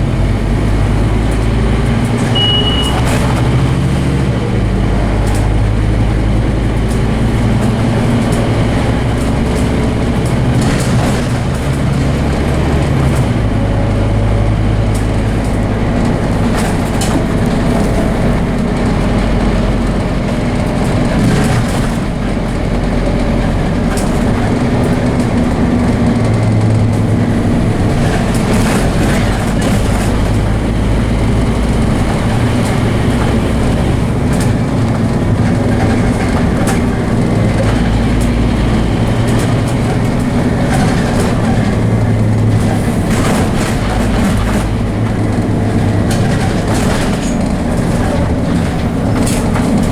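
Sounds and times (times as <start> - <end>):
bus diesel engine working hard: 0.0 - 49.9
bus rattles and knocks: 0.0 - 49.9.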